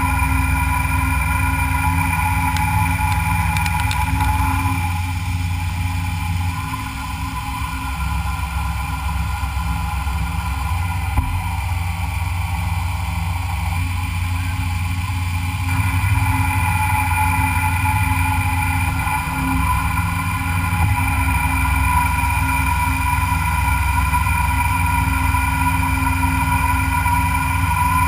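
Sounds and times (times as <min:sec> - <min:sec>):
machine tool humming with high whine: 0:00.0 - 0:28.0.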